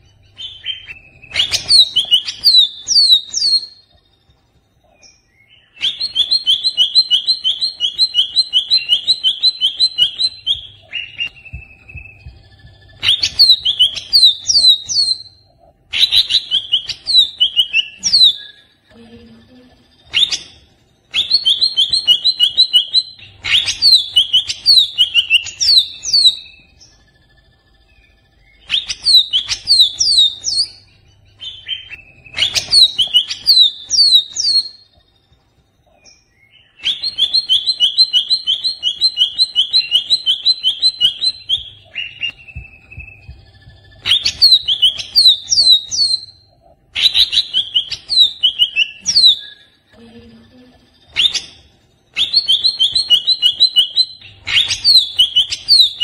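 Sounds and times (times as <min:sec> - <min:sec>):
bird singing rapid high chirps: 0:00.0 - 0:04.1, 0:04.9 - 0:18.8, 0:20.0 - 0:35.2, 0:35.8 - 0:49.9, 0:50.9 - 0:56.0.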